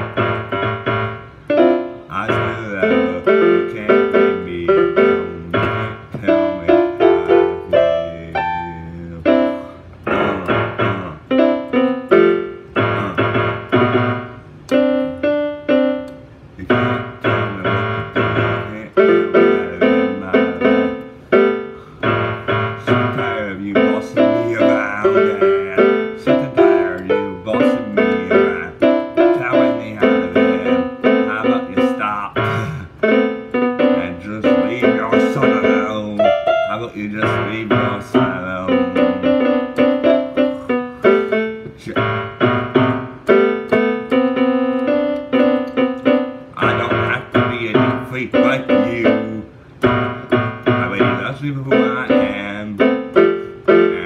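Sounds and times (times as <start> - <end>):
piano chords: 0.0 - 54.0.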